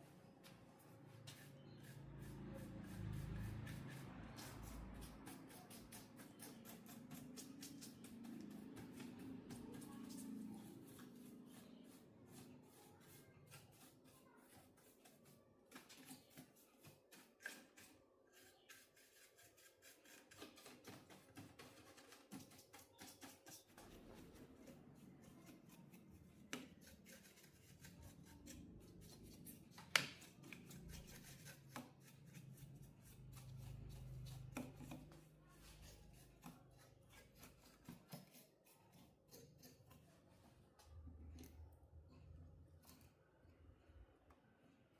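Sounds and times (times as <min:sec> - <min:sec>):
hands scraping and rubbing parts: 0:00.4 - 0:41.6.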